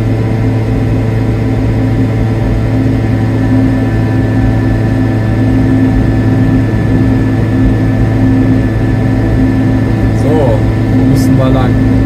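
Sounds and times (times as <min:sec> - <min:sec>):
small two-stroke engine running: 0:00.0 - 0:12.0.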